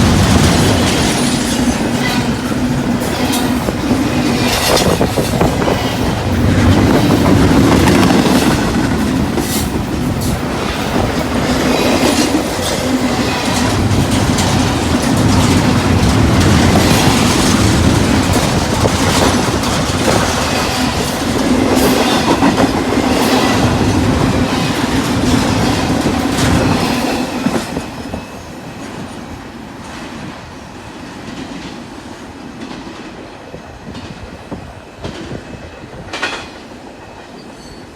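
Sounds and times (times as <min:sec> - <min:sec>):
train wheels clicking over rail joints: 0:00.0 - 0:29.2, 0:31.1 - 0:37.9.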